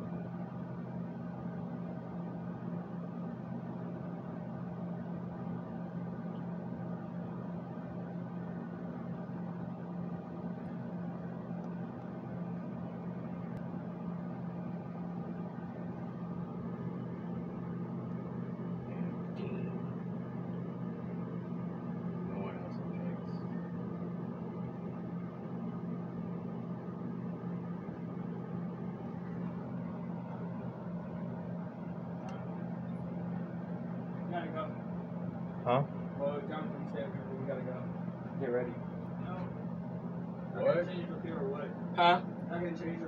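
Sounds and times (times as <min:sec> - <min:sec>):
machine hum: 0:00.0 - 0:43.0.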